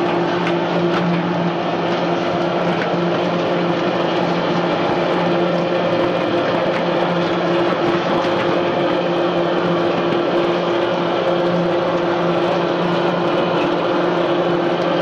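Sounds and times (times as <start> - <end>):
conveyor machinery humming: 0.0 - 15.0.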